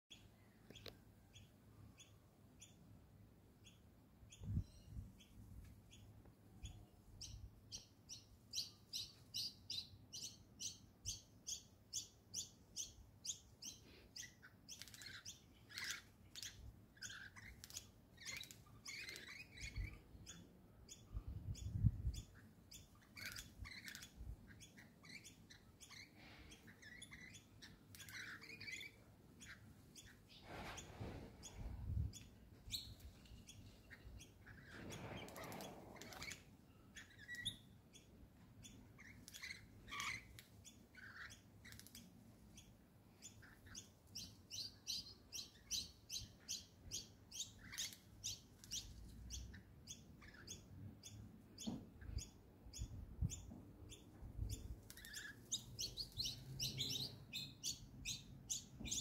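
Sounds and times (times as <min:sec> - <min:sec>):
lorikeets chirping: 0:00.1 - 0:02.8, 0:03.6 - 0:59.0
lorikeets chattering: 0:07.2 - 0:30.4, 0:32.2 - 0:54.0, 0:55.0 - 0:59.0.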